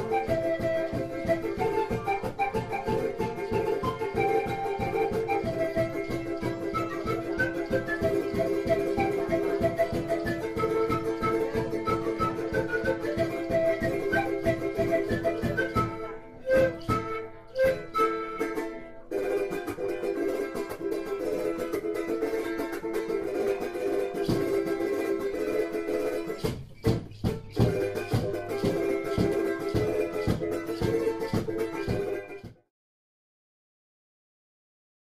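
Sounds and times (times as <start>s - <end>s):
strummed charango chords: 0.0s - 32.7s.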